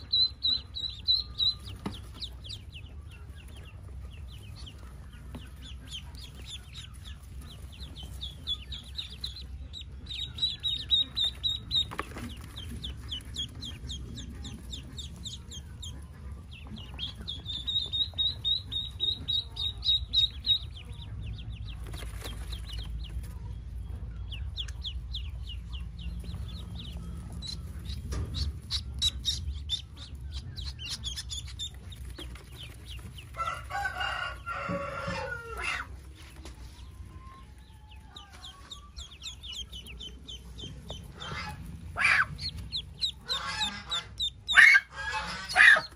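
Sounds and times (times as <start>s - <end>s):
ducklings peeping: 0.0s - 45.9s.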